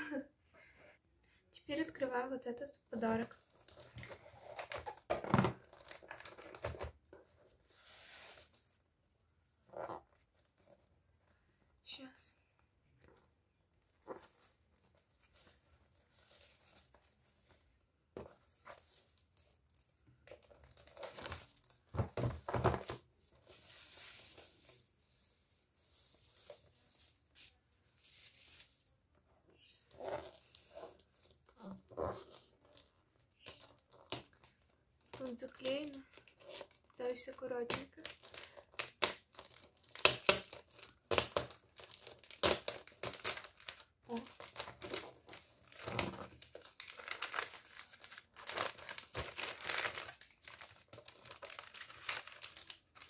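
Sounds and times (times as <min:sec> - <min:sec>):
wrapping paper rustling and crinkling: 0:03.0 - 0:08.9, 0:13.0 - 0:29.0, 0:29.9 - 0:53.0.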